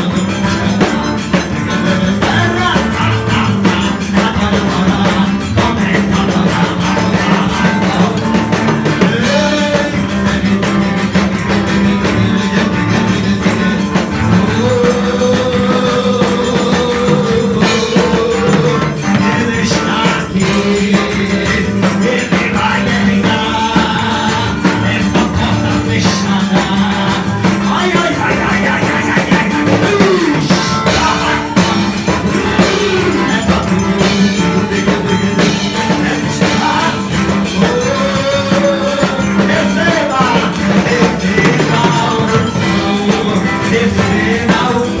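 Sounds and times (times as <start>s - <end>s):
band with drums: 0.0s - 45.0s
man singing amplified: 0.0s - 45.0s
steady bass: 0.0s - 45.0s.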